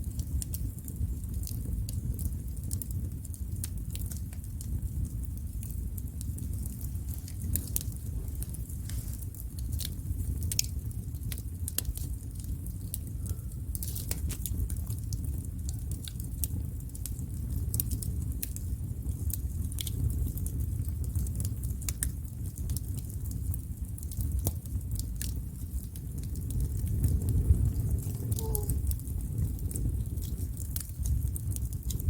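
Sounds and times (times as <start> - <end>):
low steady fire rumble: 0.0 - 32.0
wood fire crackling and popping: 0.0 - 32.0.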